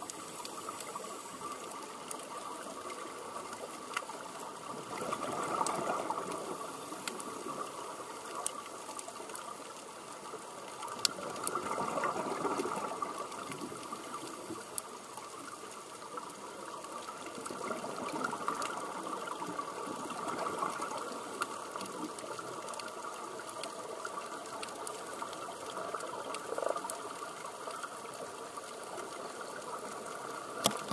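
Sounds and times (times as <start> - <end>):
faint clicks: 0.0 - 30.9
underwater bubbles gurgling: 0.0 - 30.9.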